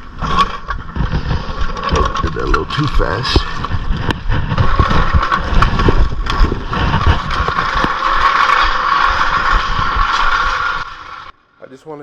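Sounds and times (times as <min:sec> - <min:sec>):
low rumbling: 0:00.0 - 0:11.4.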